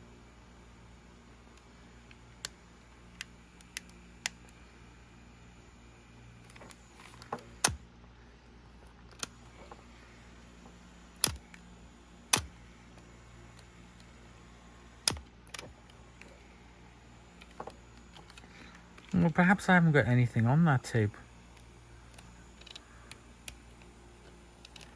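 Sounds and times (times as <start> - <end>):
cassette player hum and hiss: 0.0 - 24.9.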